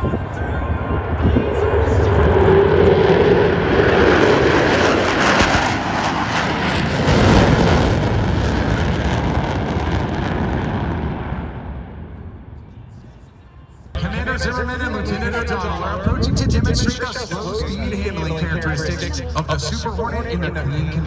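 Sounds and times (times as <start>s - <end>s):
jet roar: 0.0s - 13.3s, 13.9s - 21.0s.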